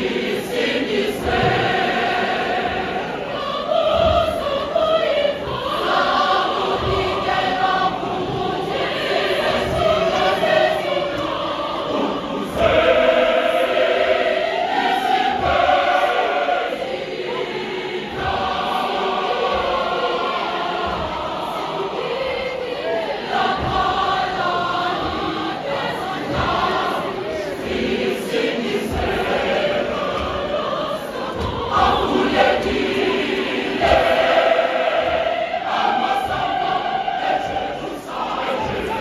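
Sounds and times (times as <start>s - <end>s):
choir singing: 0.0s - 39.0s
low thumps: 0.0s - 39.0s.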